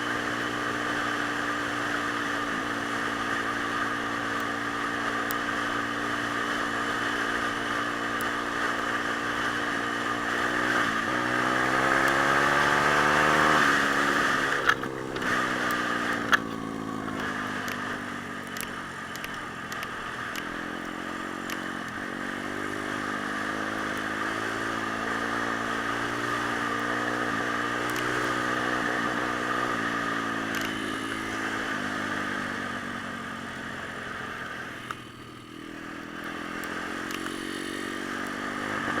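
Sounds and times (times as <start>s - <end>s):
pit bike engine revving: 0.0s - 39.0s.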